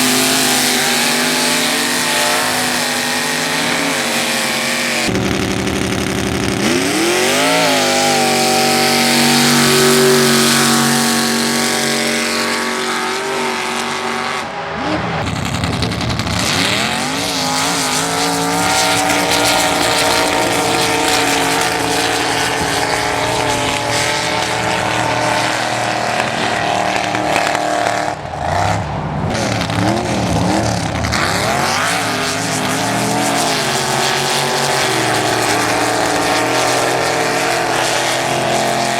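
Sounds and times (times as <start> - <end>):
truck engine at high revs: 0.0 - 38.9.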